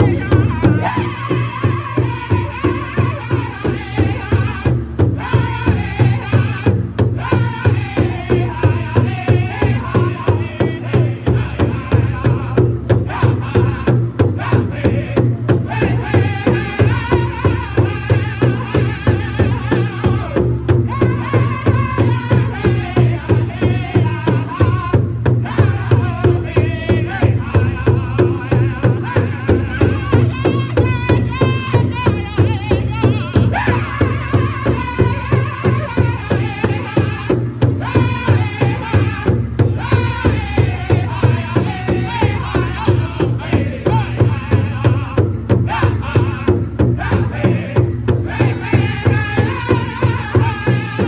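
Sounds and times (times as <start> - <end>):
large drum beating: 0.0 - 51.0
men singing: 0.0 - 51.0.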